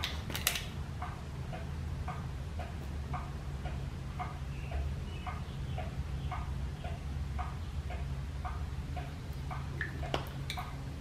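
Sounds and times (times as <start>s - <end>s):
steady low hum: 0.0s - 11.0s
clock ticking: 0.9s - 10.2s.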